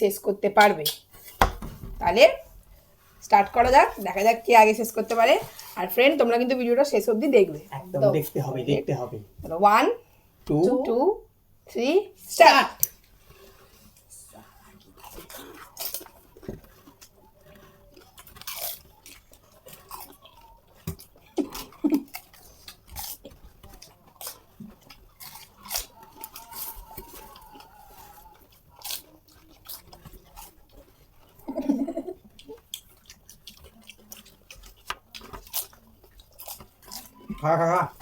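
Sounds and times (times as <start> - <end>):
people crunching and chewing: 0.7 - 10.8, 12.7 - 38.0.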